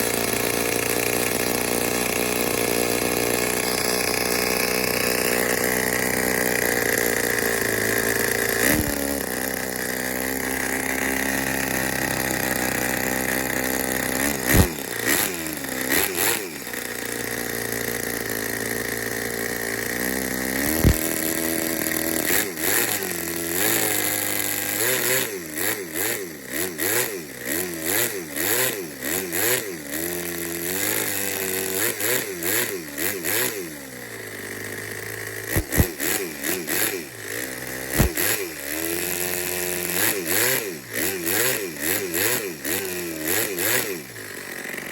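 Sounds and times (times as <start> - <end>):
miniature engine idling and revving: 0.0 - 44.9.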